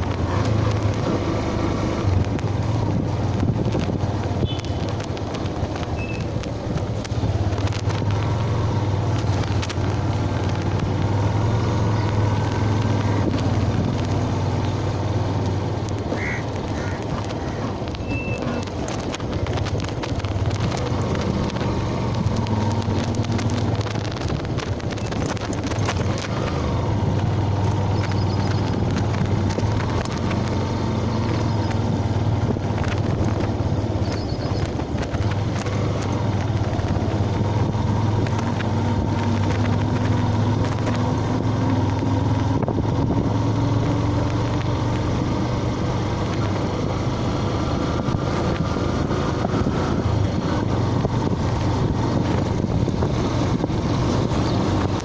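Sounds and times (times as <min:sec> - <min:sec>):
motorcycle engine droning: 0:00.0 - 0:55.0.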